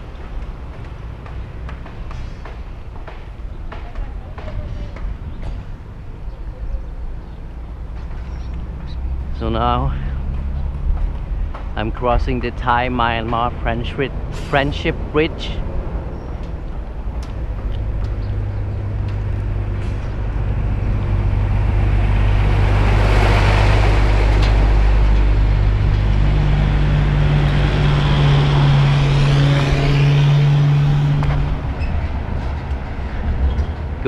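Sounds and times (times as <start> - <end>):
tyre and road noise: 0.0 - 34.0
vehicle engine drone: 0.0 - 34.0.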